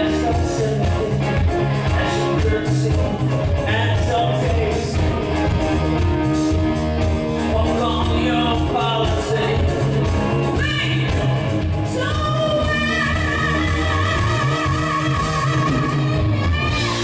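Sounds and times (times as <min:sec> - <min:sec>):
man singing: 0:00.0 - 0:05.8, 0:07.3 - 0:17.0
live rock band: 0:00.0 - 0:17.0.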